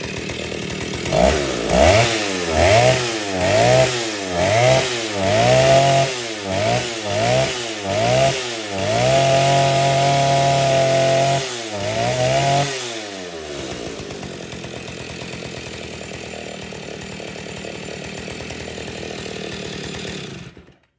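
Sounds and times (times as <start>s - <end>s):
chainsaw revving and idling: 0.0s - 20.9s.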